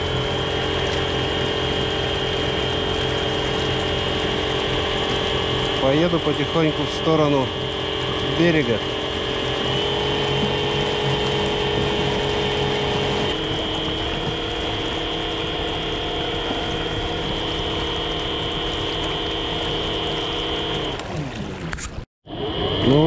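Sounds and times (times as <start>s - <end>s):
electric outboard motor whining: 0.0s - 23.0s.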